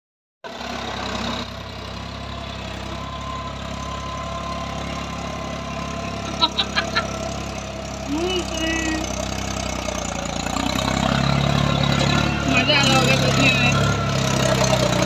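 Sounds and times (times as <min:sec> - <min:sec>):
tractor engine idling: 0:00.5 - 0:15.0.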